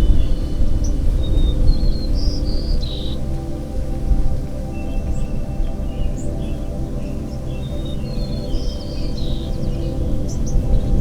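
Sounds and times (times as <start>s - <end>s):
ambient music with sustained tones: 0.0s - 11.0s.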